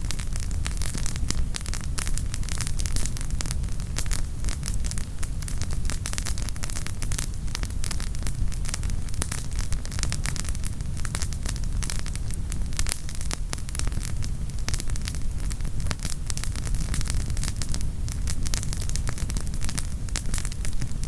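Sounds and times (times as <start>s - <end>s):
campfire crackling and popping: 0.0s - 21.0s
fire low rumble: 0.0s - 21.0s.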